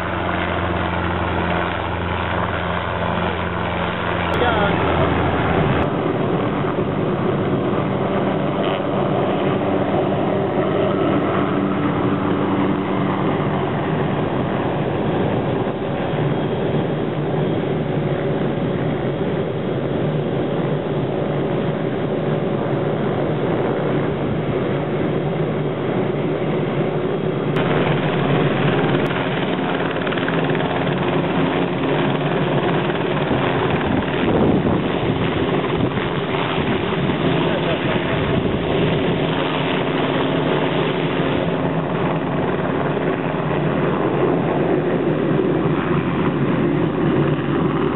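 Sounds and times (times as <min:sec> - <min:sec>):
helicopter rotors and turbine: 0:00.0 - 0:47.9.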